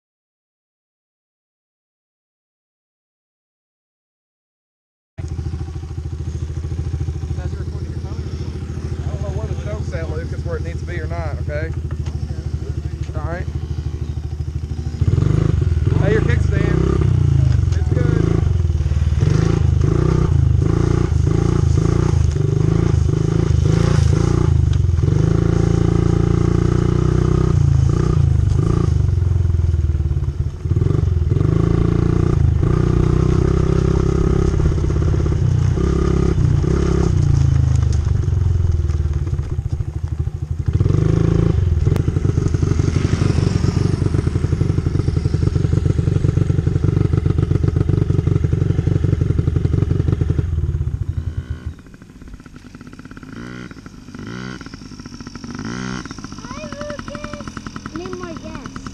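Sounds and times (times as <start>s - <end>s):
dirt bike engine revving: 5.2s - 58.9s.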